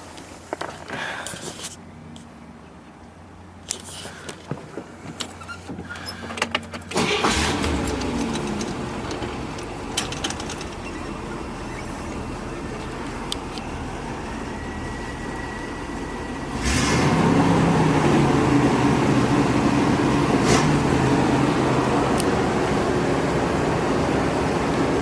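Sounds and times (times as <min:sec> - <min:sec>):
car engine starting and idling: 0:03.3 - 0:25.0.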